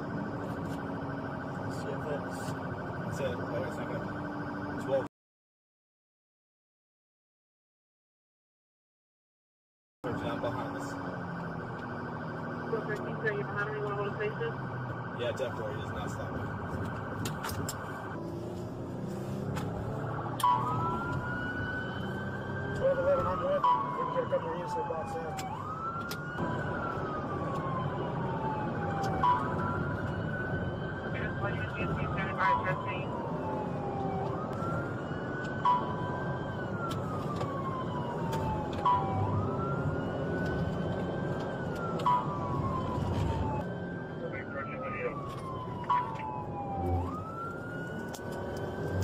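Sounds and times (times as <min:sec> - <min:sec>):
police siren: 0:00.0 - 0:05.1, 0:10.0 - 0:49.0
road and engine noise: 0:00.0 - 0:05.1, 0:10.0 - 0:49.0.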